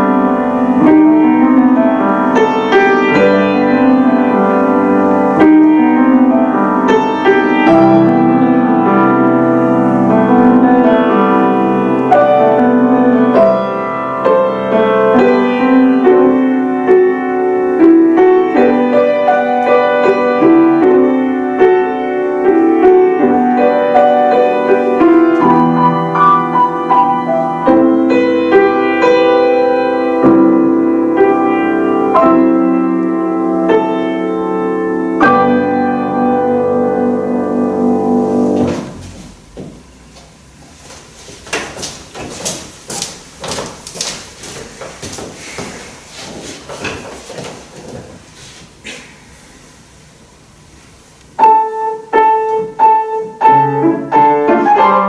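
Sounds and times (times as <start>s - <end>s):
classical piano duet: 0.0s - 49.0s, 51.2s - 55.0s.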